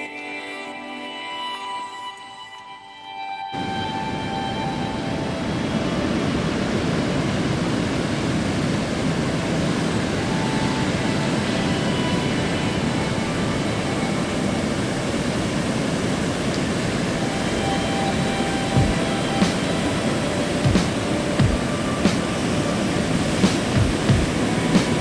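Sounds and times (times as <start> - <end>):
ocean surf breaking: 3.6 - 25.0.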